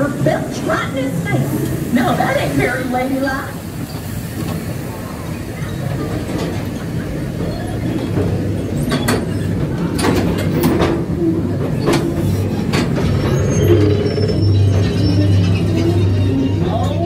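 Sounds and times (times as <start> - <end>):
ride train rumbling: 0.0 - 17.0
wheels clacking on track: 0.0 - 17.0.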